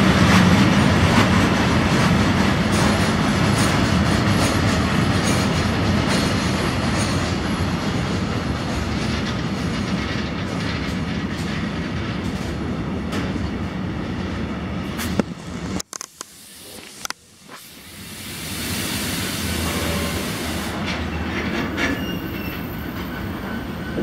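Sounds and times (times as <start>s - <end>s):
freight train wheels rumbling: 0.0s - 15.9s, 17.5s - 24.0s.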